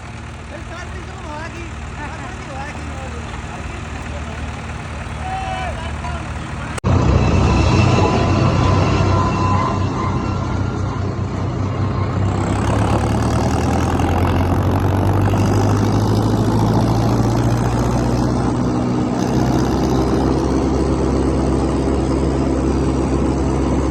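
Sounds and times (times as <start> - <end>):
diesel tractor engines running: 0.0 - 23.9.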